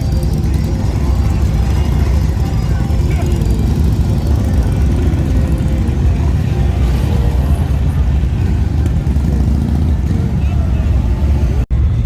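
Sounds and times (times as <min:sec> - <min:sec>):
motorcycle engines rumbling: 0:00.0 - 0:12.0
street traffic: 0:00.0 - 0:12.0.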